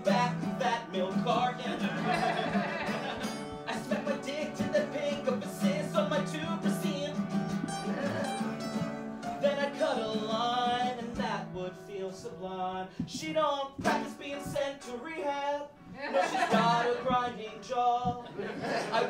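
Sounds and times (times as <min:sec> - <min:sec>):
man singing: 0:00.0 - 0:08.6, 0:09.2 - 0:19.0
acoustic guitars strummed: 0:00.0 - 0:19.0.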